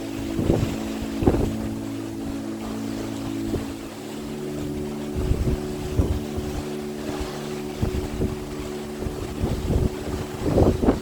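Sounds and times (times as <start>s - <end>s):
low drone: 0.0s - 11.0s
wind gusting on microphone: 0.0s - 11.0s.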